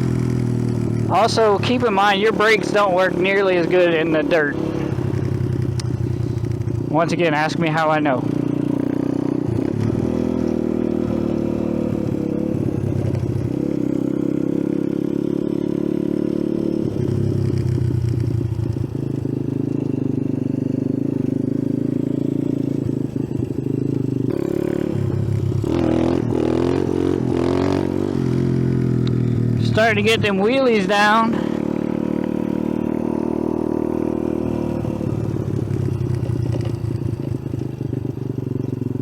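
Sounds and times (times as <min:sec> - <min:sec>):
mini bike engine revving: 0:00.0 - 0:39.0.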